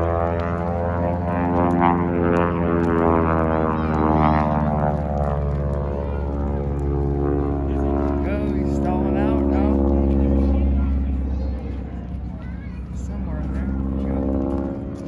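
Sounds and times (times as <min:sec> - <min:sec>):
engine droning hum: 0:00.0 - 0:15.0.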